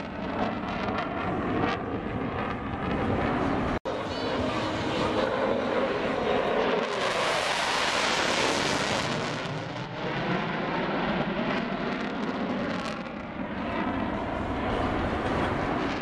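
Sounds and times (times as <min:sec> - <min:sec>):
fighter jet roaring past: 0:00.0 - 0:16.0.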